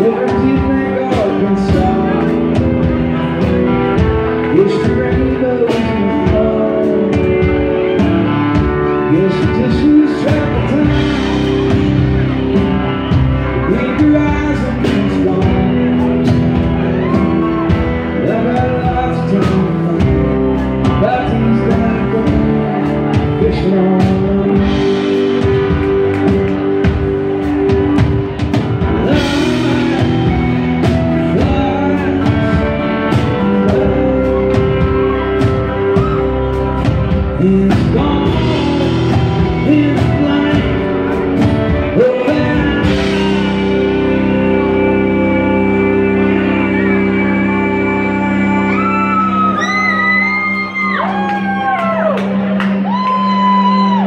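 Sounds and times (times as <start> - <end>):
man singing: 0.0 - 27.1, 28.8 - 51.5.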